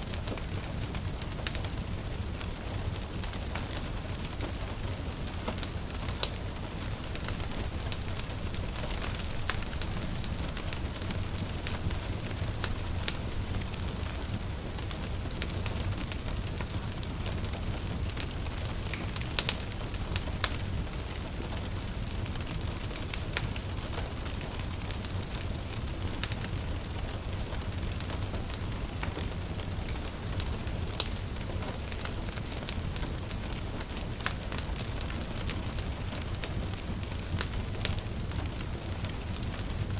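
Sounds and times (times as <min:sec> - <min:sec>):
rain pattering: 0:00.0 - 0:39.9
wood fire crackling and popping: 0:00.0 - 0:39.9.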